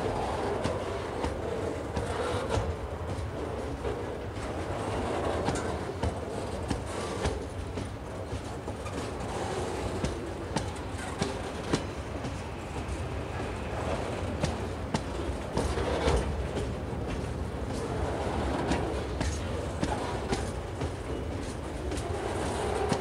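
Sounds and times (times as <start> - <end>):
low rumble of train wheels: 0.0 - 23.0
wheels clicking over track: 0.0 - 23.0.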